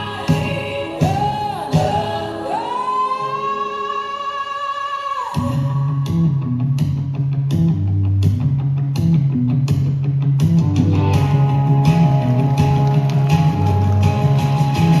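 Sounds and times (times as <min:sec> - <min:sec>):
up-tempo rock music: 0:00.0 - 0:03.8, 0:05.4 - 0:15.0.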